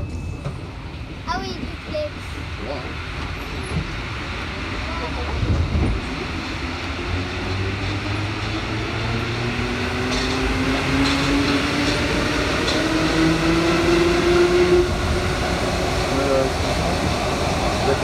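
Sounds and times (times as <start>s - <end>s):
train running noise: 0.0s - 18.0s.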